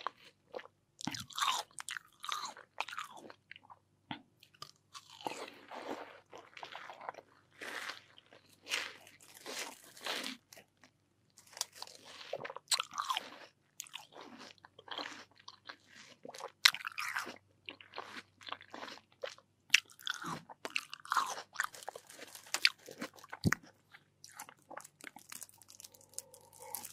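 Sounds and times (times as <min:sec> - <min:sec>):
biting and chewing watermelon: 0:00.0 - 0:26.9.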